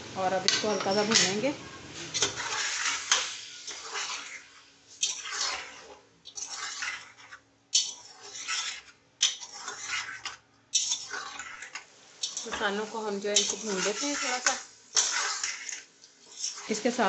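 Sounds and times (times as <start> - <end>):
beef frying in oil: 0.0 - 17.0
spatula scraping a pot: 0.5 - 1.4, 2.0 - 12.7, 13.3 - 17.0.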